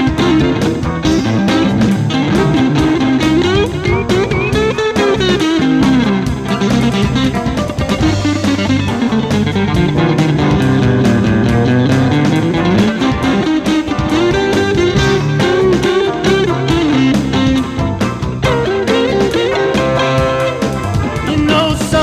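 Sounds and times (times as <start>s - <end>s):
bass guitar: 0.0s - 22.0s
electric guitar: 0.0s - 22.0s
steady drum beat: 0.0s - 22.0s.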